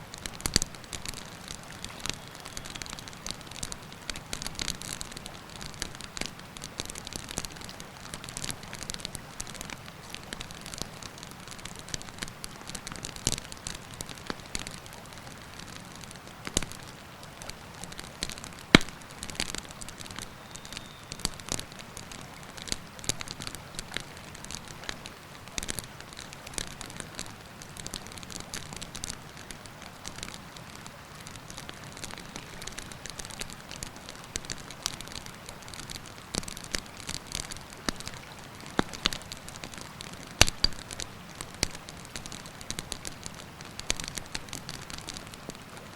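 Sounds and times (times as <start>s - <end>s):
campfire crackling and popping: 0.1s - 45.9s.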